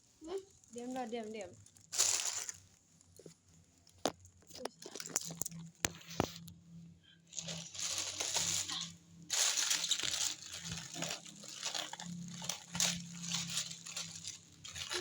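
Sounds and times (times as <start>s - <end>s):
packaging crinkling and rustling: 0.2s - 6.6s, 7.3s - 15.0s.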